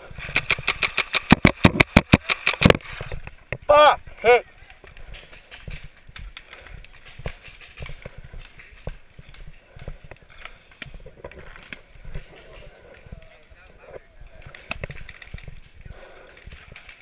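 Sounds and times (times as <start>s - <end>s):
sharp clicks and rattles: 0.2s - 3.6s, 4.8s - 17.0s
footsteps walking: 2.8s - 17.0s.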